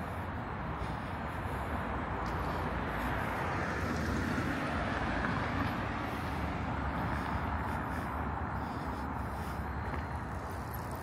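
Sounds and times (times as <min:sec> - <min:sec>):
outdoor traffic noise: 0:00.0 - 0:11.0.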